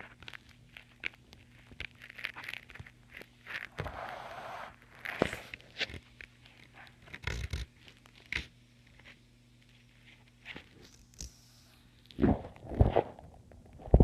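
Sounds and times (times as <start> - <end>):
gecko crunching insects: 0.0 - 3.8, 4.7 - 12.8.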